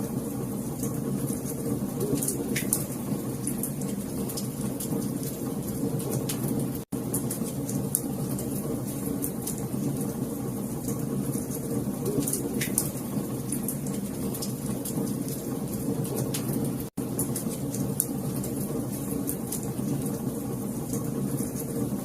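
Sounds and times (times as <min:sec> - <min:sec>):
wood fire crackling and popping: 0:00.7 - 0:22.0.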